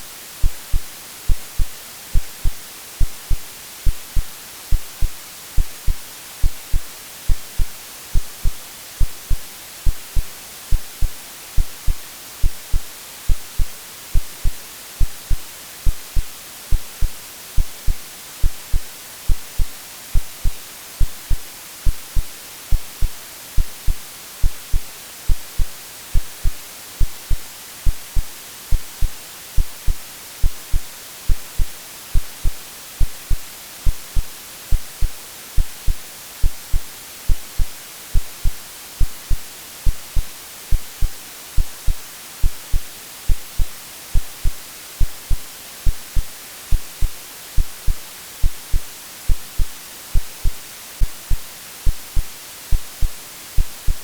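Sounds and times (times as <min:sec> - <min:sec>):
white noise hiss: 0:00.0 - 0:54.0
synthesized heartbeat thumps: 0:00.4 - 0:54.0.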